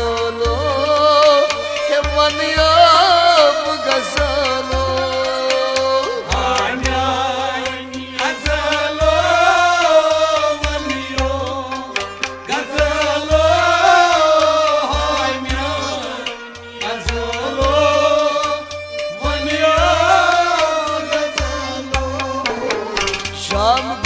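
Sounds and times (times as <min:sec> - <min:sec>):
bowed fiddle: 0:00.0 - 0:24.0
drum beat: 0:00.0 - 0:24.0
harmonium: 0:00.0 - 0:24.0
rubab: 0:00.0 - 0:24.0.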